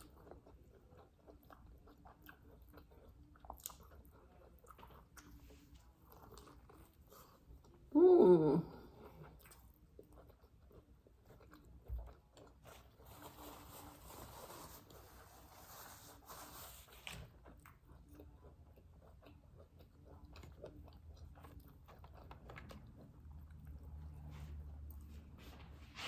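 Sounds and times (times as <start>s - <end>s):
biting and chewing food: 0.0s - 7.9s, 8.8s - 25.3s.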